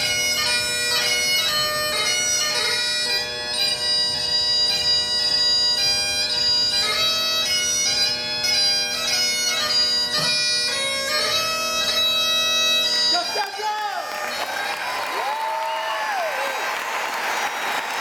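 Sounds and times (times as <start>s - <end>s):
bagpipes playing a dance tune: 0.0s - 18.0s.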